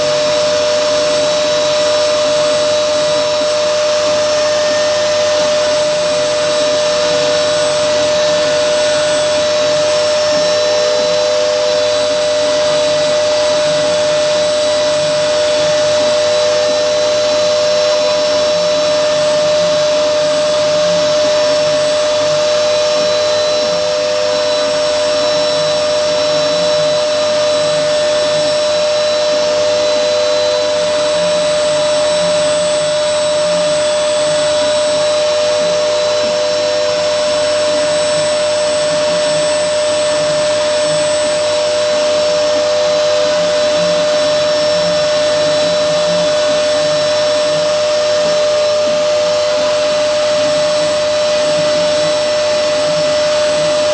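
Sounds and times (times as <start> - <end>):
router spindle whining: 0.0 - 53.9.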